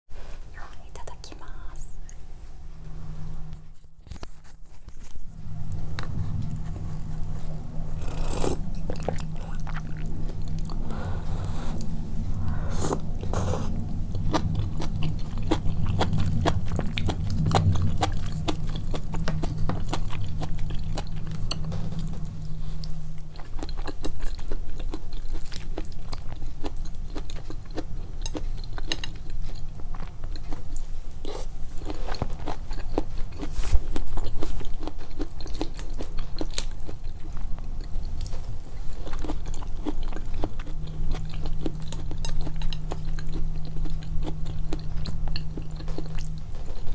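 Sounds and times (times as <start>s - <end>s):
person chewing food: 4.9s - 46.9s.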